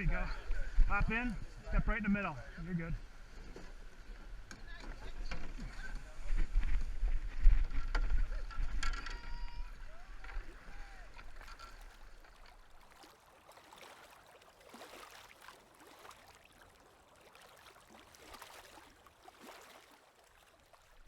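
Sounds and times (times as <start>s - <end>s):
river water splashing and trickling: 3.0s - 21.0s.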